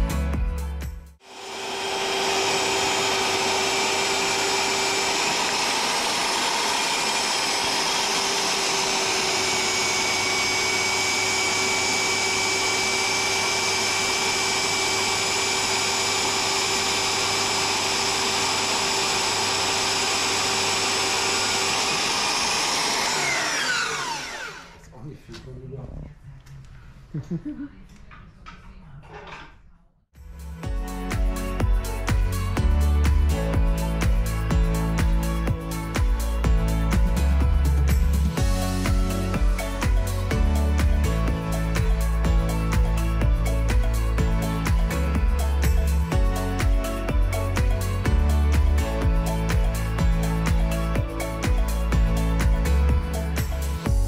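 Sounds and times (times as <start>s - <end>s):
circular saw cutting wood: 1.2s - 24.8s, 32.0s - 54.0s.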